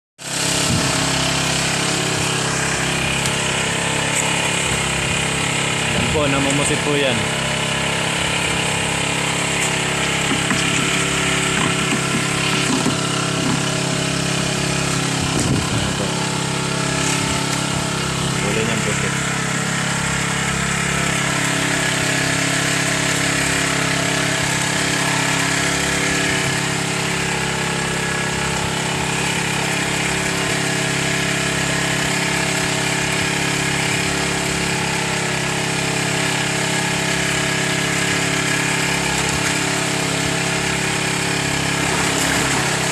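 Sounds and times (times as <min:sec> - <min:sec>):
small engine running: 0:00.2 - 0:42.9.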